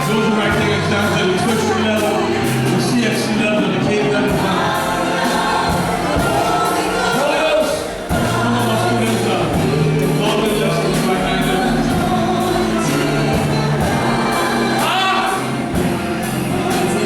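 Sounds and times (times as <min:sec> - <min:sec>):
choir singing gospel song: 0:00.0 - 0:17.0
live band accompaniment: 0:00.0 - 0:17.0.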